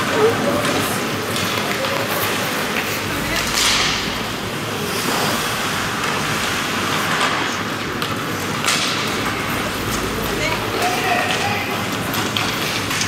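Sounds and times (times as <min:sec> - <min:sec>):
skates on ice rumbling and hissing: 0:00.0 - 0:13.0.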